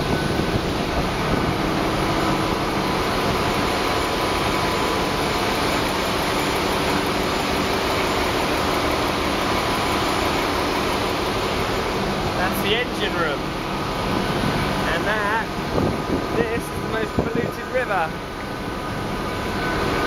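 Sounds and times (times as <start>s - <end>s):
engine room machinery running: 0.0s - 20.0s.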